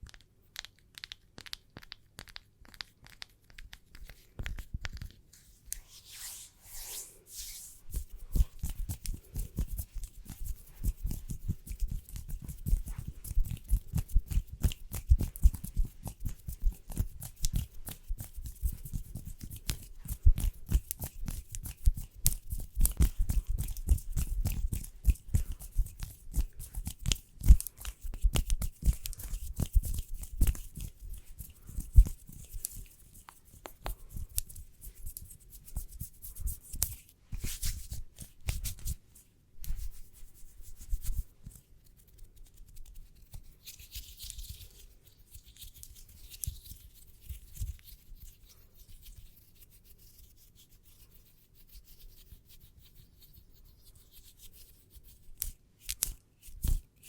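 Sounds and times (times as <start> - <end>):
hands rubbing: 0.1 - 47.8.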